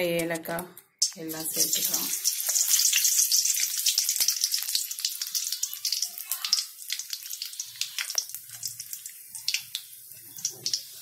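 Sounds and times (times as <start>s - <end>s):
small crackling pops: 0.0s - 10.9s
spices sizzling in hot oil: 0.0s - 11.0s.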